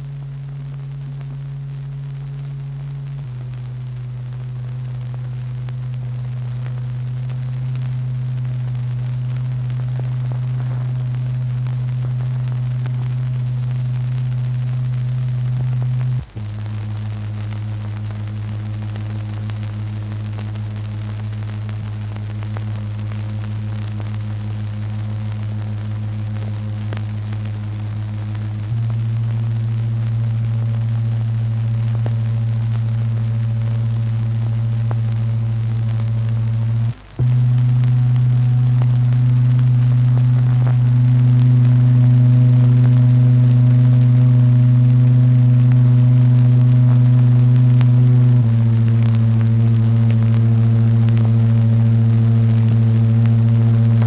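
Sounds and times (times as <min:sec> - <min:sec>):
low oscillator tone: 0:00.0 - 0:54.0.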